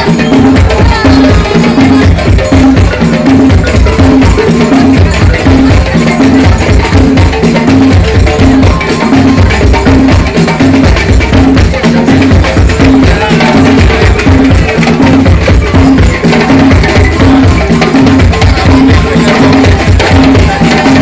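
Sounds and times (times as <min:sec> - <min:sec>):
hand drums playing fast rhythm: 0:00.0 - 0:21.0.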